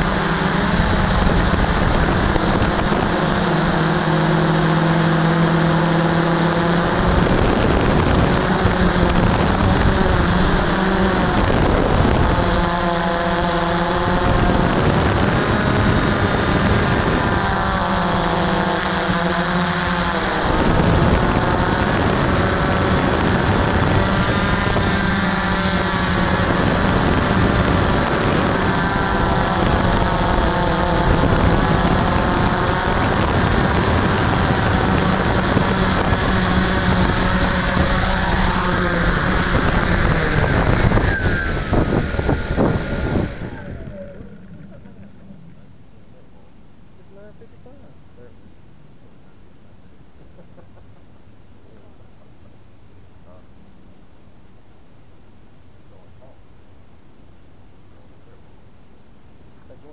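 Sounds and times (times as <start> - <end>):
drone motors and propellers whining: 0.0 - 49.4.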